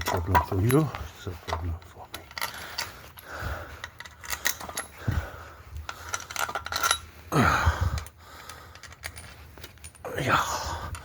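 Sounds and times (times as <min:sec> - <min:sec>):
metal tools clinking and scraping: 0:00.0 - 0:05.2, 0:05.8 - 0:07.2, 0:07.9 - 0:11.0.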